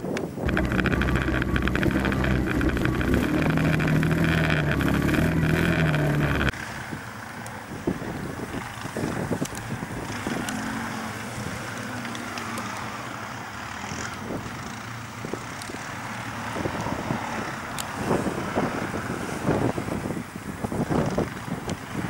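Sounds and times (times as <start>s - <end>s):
wind noise on microphone: 0.0s - 11.7s, 15.2s - 22.0s
distant quad bike engines: 0.2s - 22.0s.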